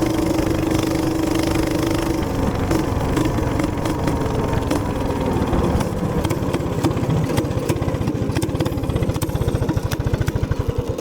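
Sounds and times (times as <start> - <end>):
sharp rattling clicks: 0.0 - 10.8
small gas engine running: 0.0 - 11.0.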